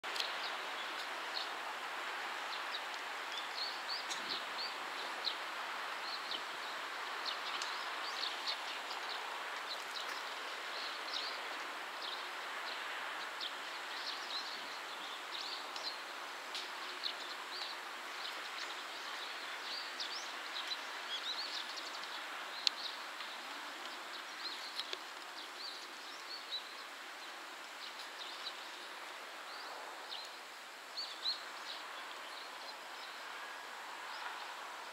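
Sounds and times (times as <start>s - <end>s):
steady hiss: 0.1s - 34.9s.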